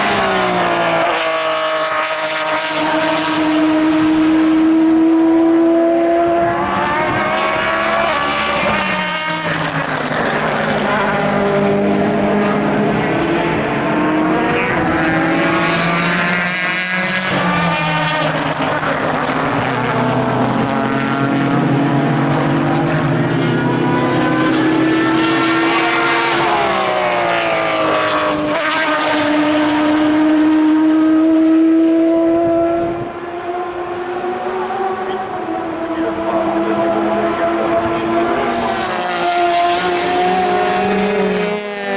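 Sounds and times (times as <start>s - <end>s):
race cars passing: 0.0s - 41.9s.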